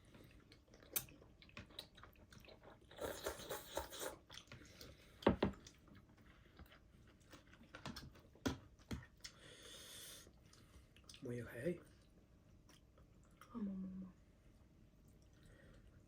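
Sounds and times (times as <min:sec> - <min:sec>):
person chewing noodles: 0:00.0 - 0:11.2, 0:12.0 - 0:13.6, 0:15.0 - 0:16.0.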